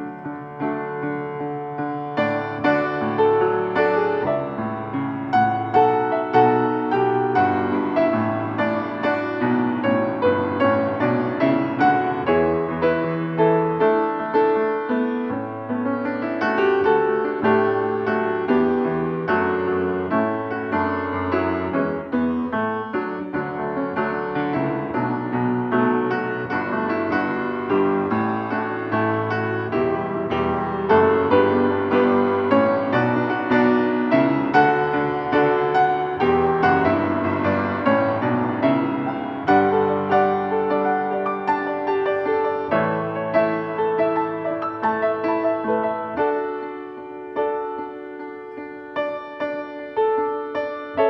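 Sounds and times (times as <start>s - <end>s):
quiet piano music: 0.0s - 51.0s.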